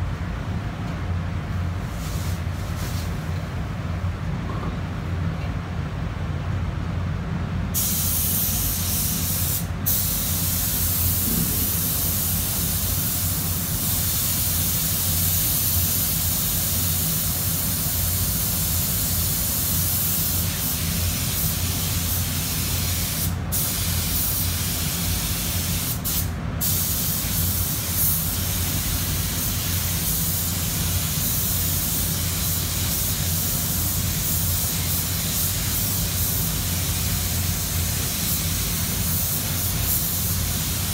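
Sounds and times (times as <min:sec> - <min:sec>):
paint spray gun hissing: 0:07.8 - 0:40.9.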